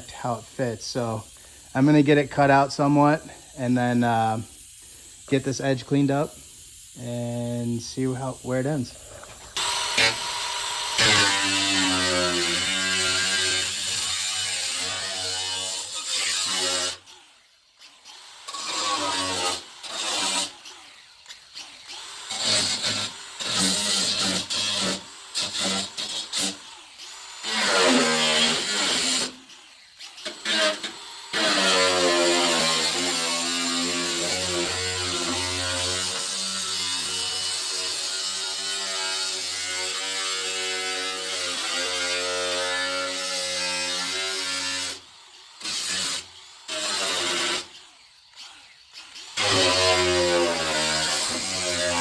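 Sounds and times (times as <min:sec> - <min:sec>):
power tool cutting sheet metal: 0:00.0 - 0:52.0.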